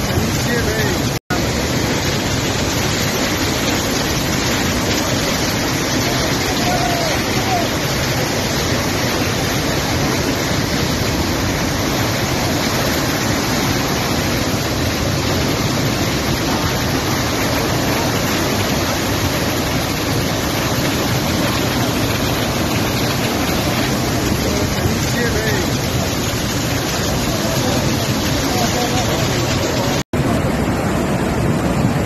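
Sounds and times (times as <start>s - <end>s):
floodwater rushing: 0.0s - 32.0s.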